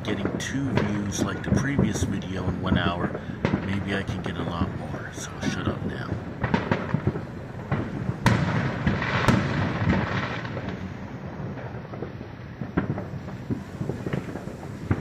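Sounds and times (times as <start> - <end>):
firecrackers popping and crackling: 0.0 - 15.0
fireworks bangs with rumbling echo: 0.0 - 15.0.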